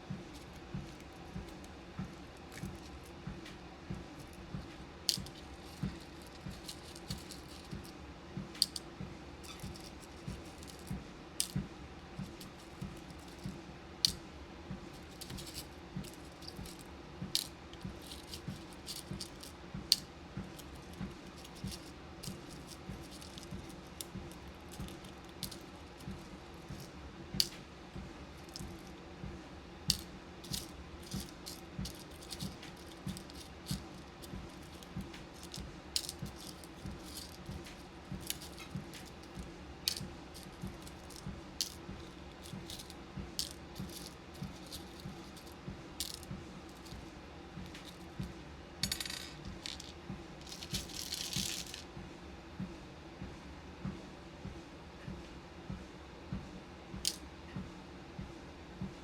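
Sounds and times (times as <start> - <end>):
beads and pins clinking: 0.1 - 11.6, 12.2 - 14.2, 14.8 - 27.6, 28.2 - 29.0, 29.8 - 51.9.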